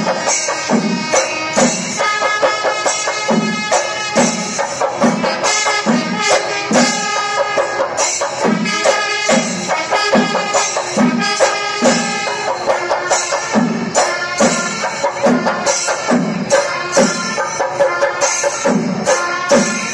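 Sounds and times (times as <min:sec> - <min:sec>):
clashing cymbals: 0:00.0 - 0:19.9
drums: 0:00.0 - 0:19.9
wind instrument melody: 0:00.0 - 0:19.9.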